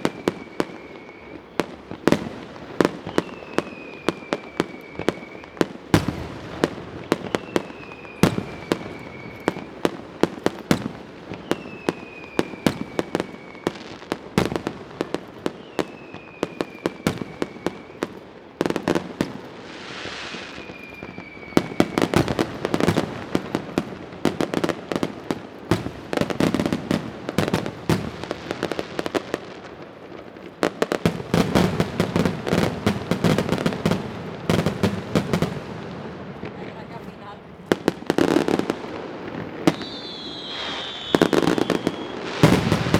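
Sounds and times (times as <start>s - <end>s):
falling firework whistle: 0.0s - 29.7s, 37.8s - 42.9s
fireworks bangs and crackle: 0.0s - 42.9s.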